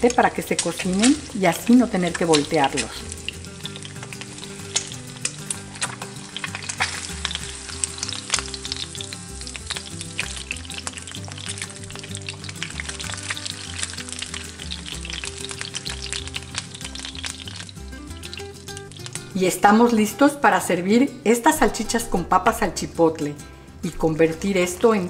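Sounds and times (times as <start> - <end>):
eggs sizzling in oil: 0.0 - 20.7.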